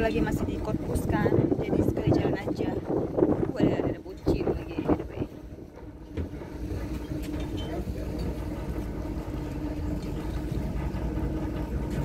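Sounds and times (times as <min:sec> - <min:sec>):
ferry engine humming: 0:00.0 - 0:12.0
wind buffeting microphone: 0:00.0 - 0:12.0.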